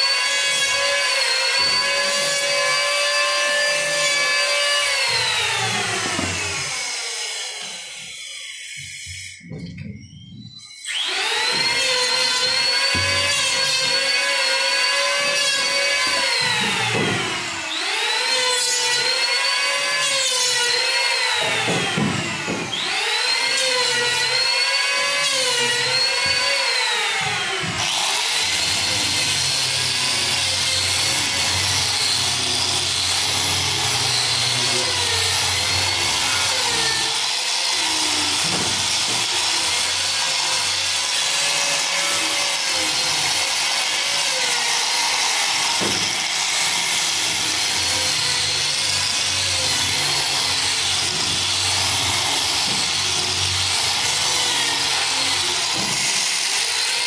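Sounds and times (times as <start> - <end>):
grinder sanding wood: 0.0 - 8.2, 10.9 - 57.0
grinder whine: 0.0 - 57.0.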